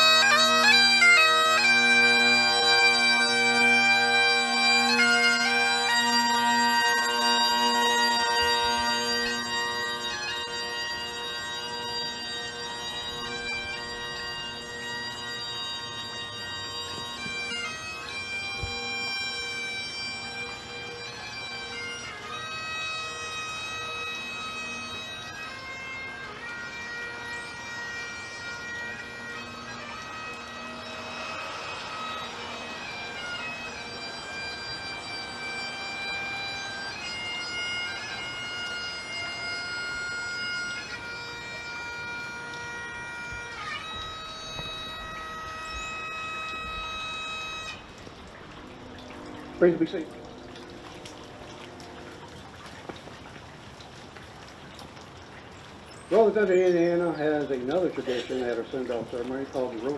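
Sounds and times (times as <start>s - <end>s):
bagpipes playing a melody: 0.0s - 59.9s.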